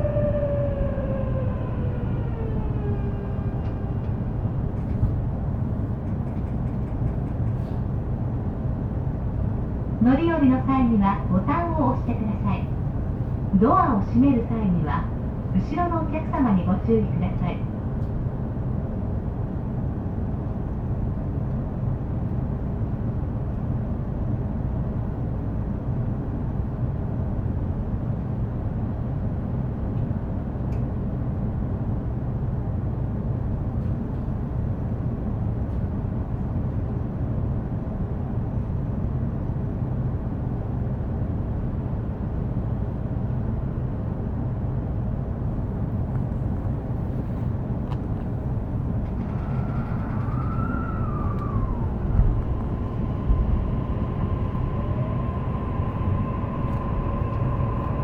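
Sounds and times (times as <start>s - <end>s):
train running rumble: 0.0s - 58.0s.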